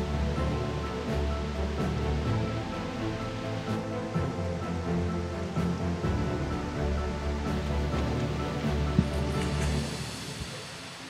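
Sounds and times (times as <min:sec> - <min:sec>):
music with held notes: 0:00.0 - 0:11.0.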